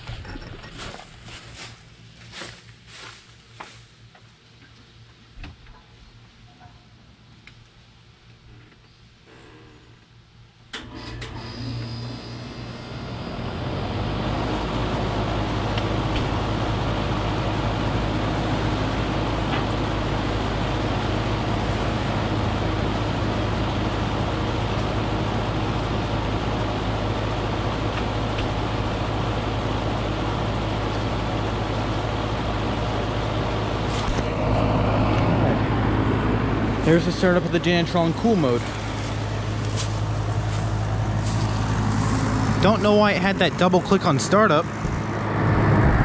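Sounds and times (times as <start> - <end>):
heat pump unit humming: 0.0 - 46.0.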